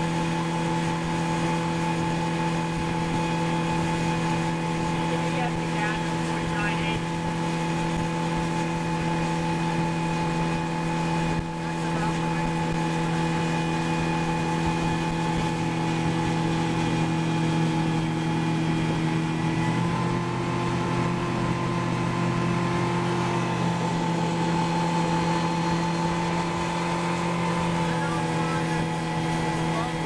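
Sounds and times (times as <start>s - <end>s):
boat engine running: 0.0s - 30.0s
water rushing: 0.0s - 30.0s
wind: 0.0s - 30.0s.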